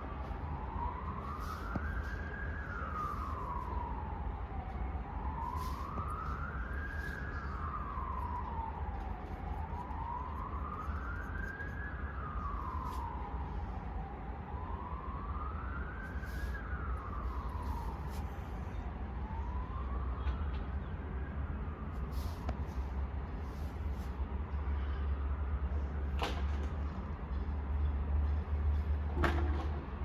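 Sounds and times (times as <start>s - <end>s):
emergency siren wailing: 0.0s - 26.1s.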